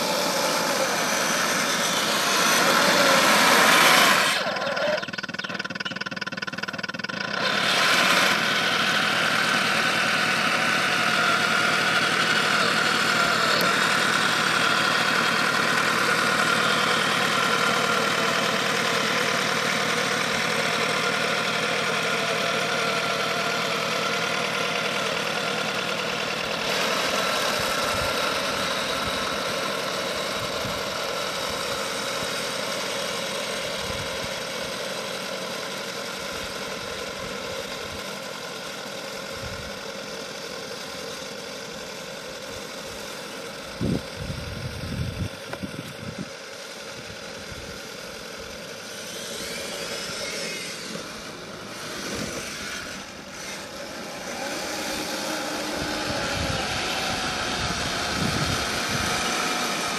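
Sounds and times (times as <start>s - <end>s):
model tank running with whine: 0.0s - 59.9s.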